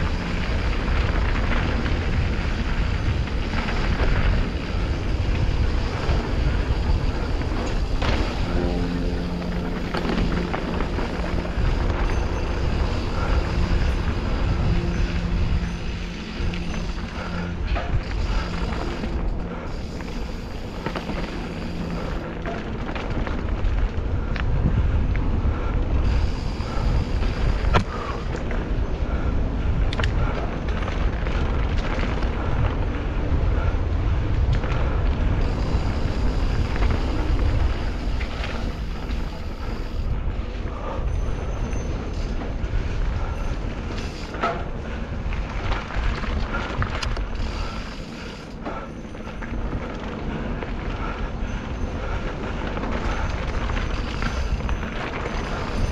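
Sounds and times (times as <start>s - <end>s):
bike rattling over bumps: 0.0s - 55.9s
bike tyres rolling on dirt: 0.0s - 55.9s.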